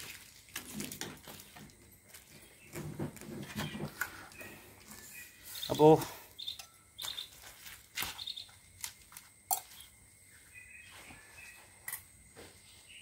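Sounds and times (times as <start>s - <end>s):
small birds chirping: 1.4s - 13.0s.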